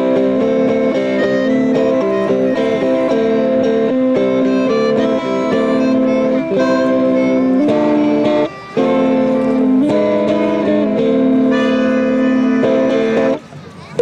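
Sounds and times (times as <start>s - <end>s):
electric guitar: 0.0s - 13.4s
melodica chords: 0.0s - 13.4s.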